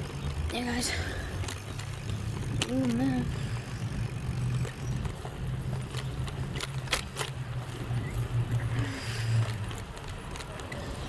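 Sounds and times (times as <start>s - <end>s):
bicycle ride rumble: 0.0s - 11.0s.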